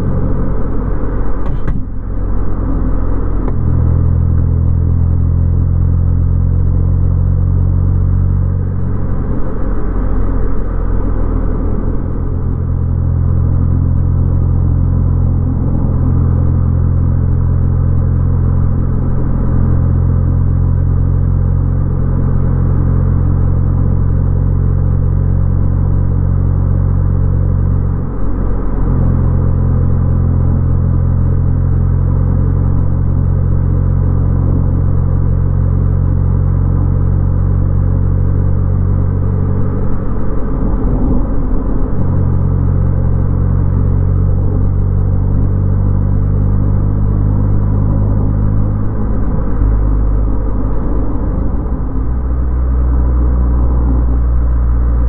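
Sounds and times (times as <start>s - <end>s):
car engine droning: 0.0s - 55.0s
road rumble: 0.0s - 55.0s.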